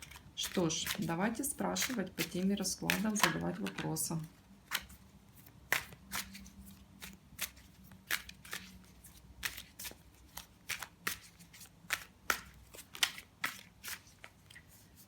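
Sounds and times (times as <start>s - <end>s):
cards shuffling snaps: 1.8s - 4.0s, 4.7s - 14.8s.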